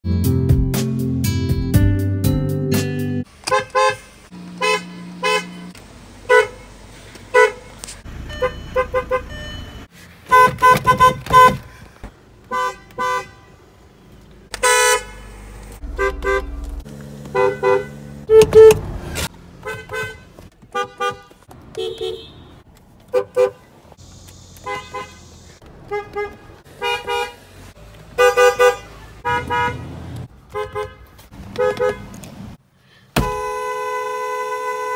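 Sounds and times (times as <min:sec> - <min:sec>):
car horns honking: 0:03.3 - 0:11.8, 0:12.4 - 0:23.7, 0:24.5 - 0:32.2, 0:33.2 - 0:34.9.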